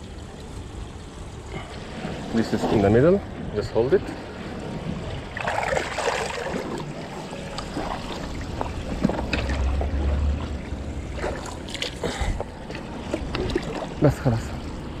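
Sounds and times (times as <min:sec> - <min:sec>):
water splashing and lapping: 0:00.0 - 0:15.0
deep rumble: 0:01.5 - 0:15.0.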